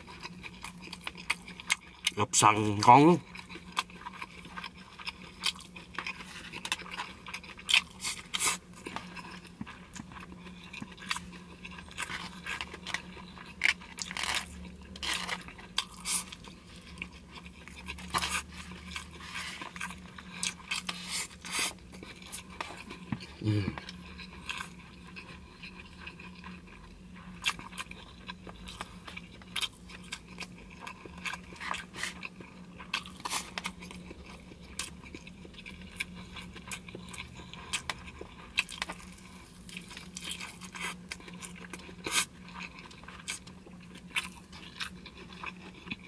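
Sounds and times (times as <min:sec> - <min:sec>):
faint low hum: 0:00.0 - 0:46.0
man chewing food: 0:00.0 - 0:46.0.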